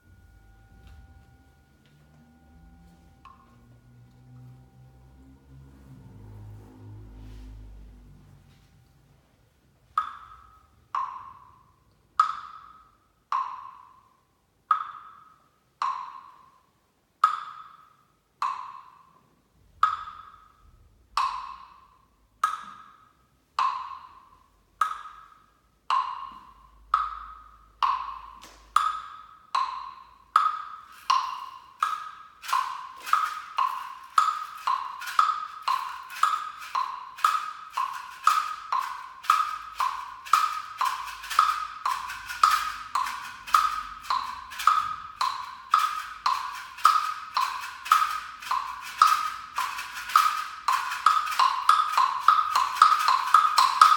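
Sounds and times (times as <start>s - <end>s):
pitched percussion strokes: 0.0s - 15.6s, 19.8s - 53.9s.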